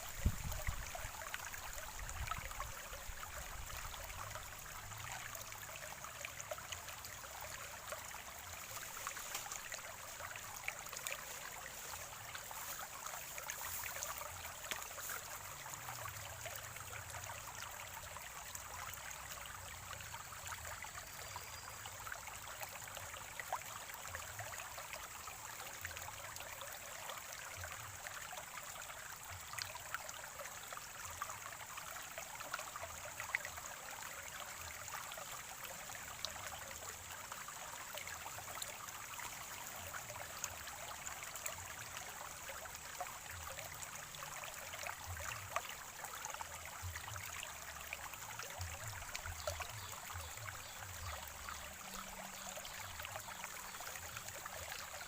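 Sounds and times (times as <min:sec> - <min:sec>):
stream trickling and gurgling: 0:00.0 - 0:55.0.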